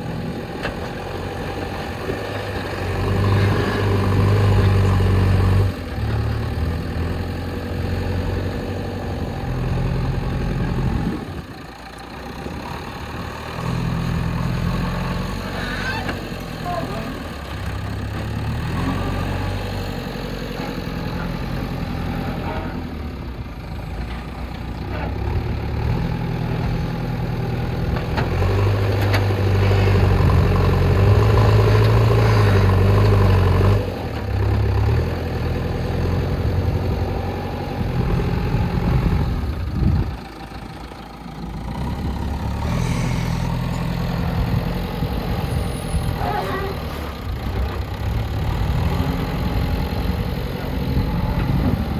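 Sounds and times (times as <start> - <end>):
backhoe diesel engine revving: 0.0 - 51.9.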